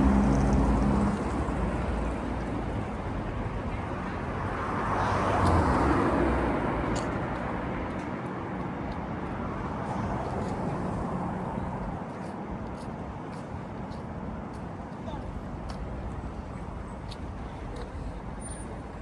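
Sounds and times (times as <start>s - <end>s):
city traffic hum: 0.0s - 19.0s.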